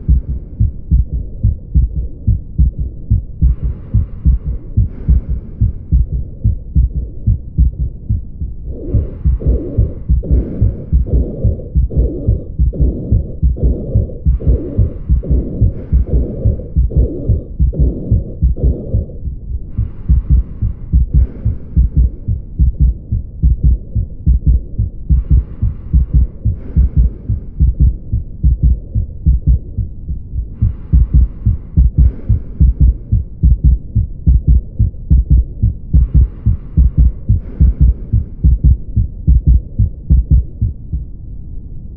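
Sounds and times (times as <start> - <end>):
heartbeat through stethoscope: 0.0 - 41.2.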